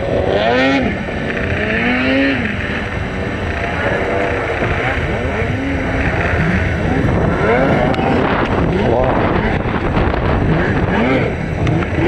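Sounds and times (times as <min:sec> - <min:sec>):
snowmobile engines revving: 0:00.0 - 0:12.0.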